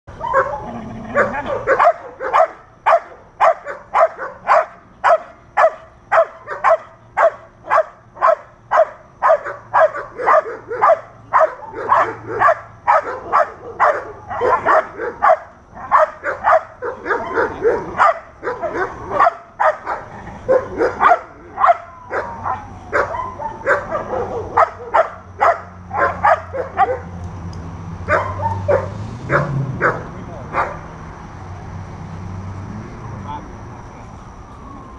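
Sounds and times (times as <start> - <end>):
dog barking loudly: 0.2 - 27.2, 28.1 - 30.9.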